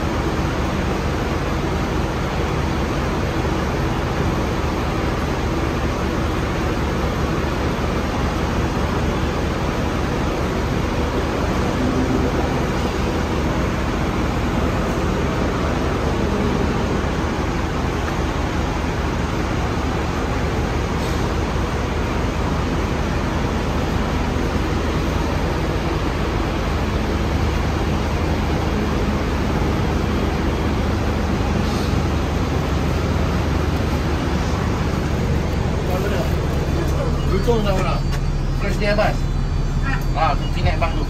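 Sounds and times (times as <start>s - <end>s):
bus engine idling: 0.0s - 41.0s.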